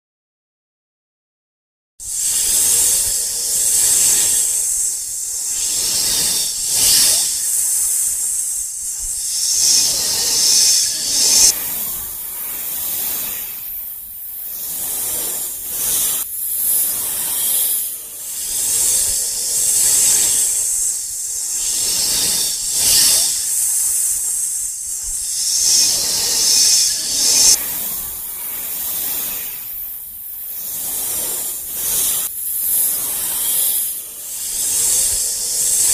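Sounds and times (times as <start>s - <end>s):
snake-like hissing: 2.0s - 35.9s.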